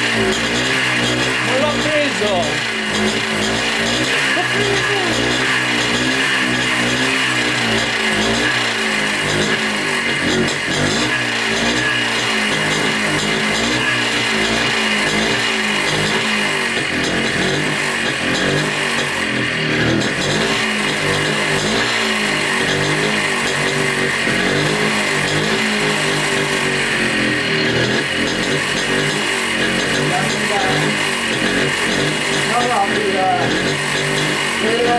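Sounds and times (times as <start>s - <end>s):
two-stroke engine revving unevenly: 0.0s - 34.9s.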